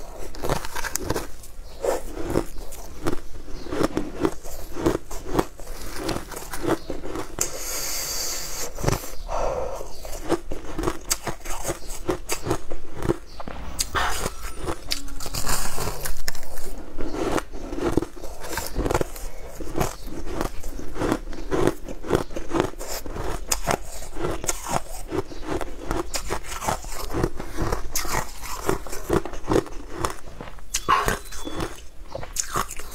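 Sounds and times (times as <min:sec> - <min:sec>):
teeth crunching ice: 0:00.0 - 0:32.9.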